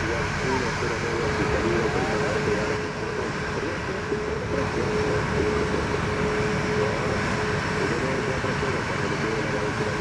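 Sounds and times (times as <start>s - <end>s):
jet engines humming: 0.0s - 10.0s.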